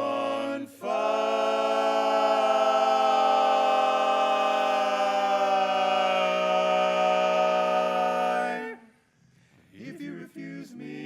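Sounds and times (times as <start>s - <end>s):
vocal quartet holding a chord: 0.0s - 8.9s, 9.8s - 11.0s.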